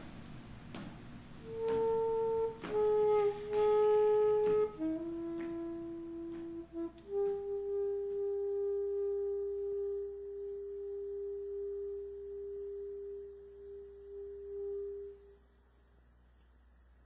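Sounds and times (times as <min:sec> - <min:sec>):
saxophone long soft note: 0:01.3 - 0:15.6.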